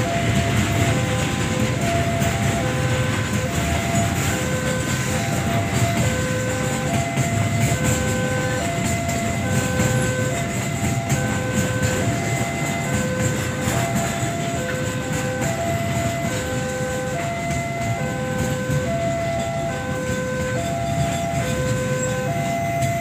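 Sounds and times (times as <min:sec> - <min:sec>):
crossing alarm two-tone chime: 0:00.0 - 0:23.0
freight train rumble and wheel clatter: 0:00.0 - 0:23.0.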